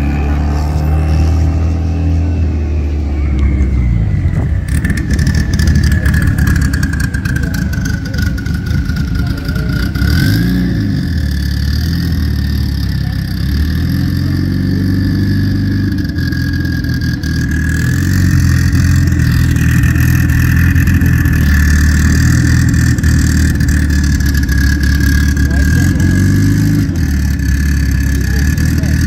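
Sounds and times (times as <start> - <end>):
car engine at low revs: 0.0 - 29.0.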